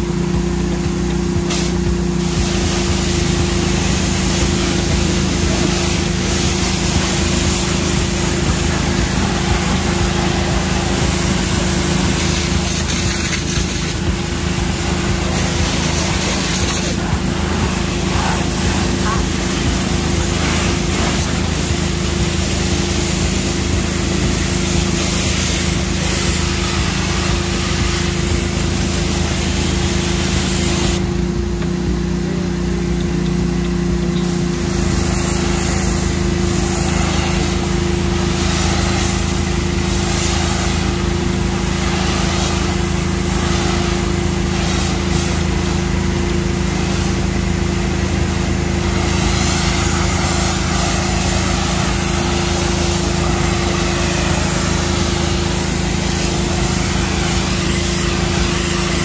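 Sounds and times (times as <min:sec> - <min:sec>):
pressure washer engine running: 0:00.0 - 0:59.0
water spray hissing: 0:00.0 - 0:59.0.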